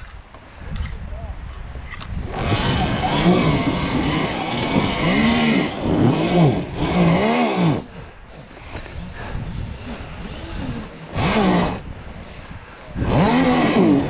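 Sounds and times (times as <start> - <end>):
electric dirt bike motor whining: 2.1 - 14.0.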